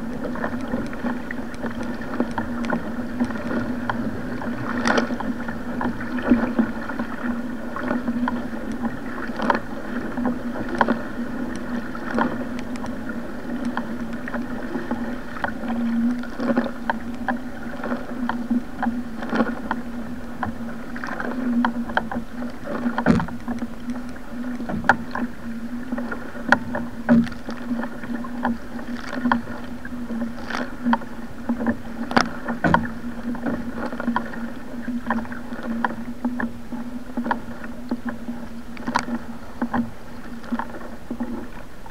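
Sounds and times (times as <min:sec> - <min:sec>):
paddle splashes: 0:00.0 - 0:41.9
water rushing along a hull: 0:00.0 - 0:41.9.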